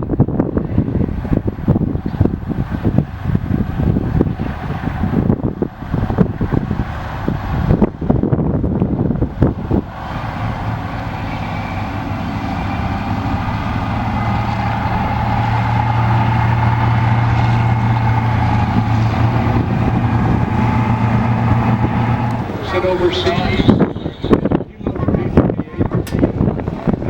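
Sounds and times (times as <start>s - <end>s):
aircraft engines droning: 0.0s - 27.0s
wind buffeting microphone: 0.0s - 27.0s.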